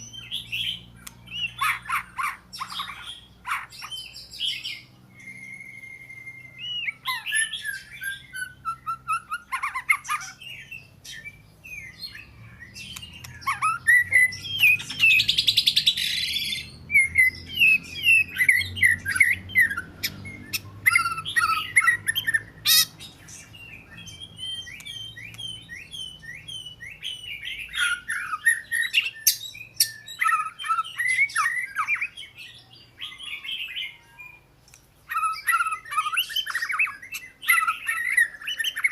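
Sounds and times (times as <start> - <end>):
bird singing whistled phrases: 2.5 - 34.4, 35.0 - 38.9.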